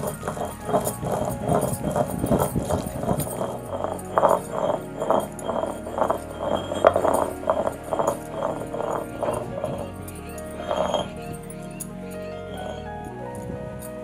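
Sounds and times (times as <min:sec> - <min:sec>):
stone roller grinding paste: 0:00.0 - 0:13.1
glass bangles jingling: 0:00.0 - 0:14.0.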